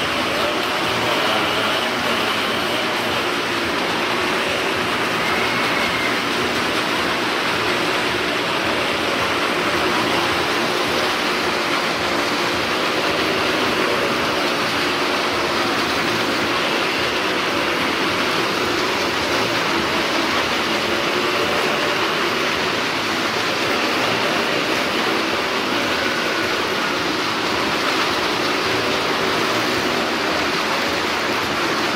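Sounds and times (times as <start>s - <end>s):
engines and wheels on wooden planks: 0.0s - 31.9s.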